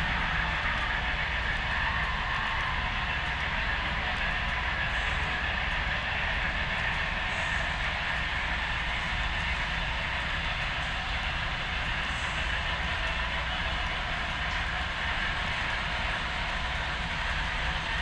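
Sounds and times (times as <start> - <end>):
model train running on rails: 0.0 - 18.0.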